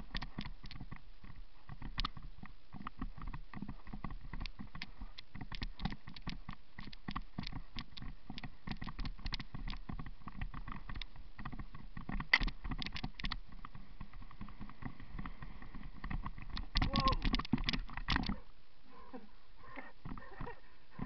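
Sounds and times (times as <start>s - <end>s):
bike clattering over rough trail: 0.0s - 18.4s.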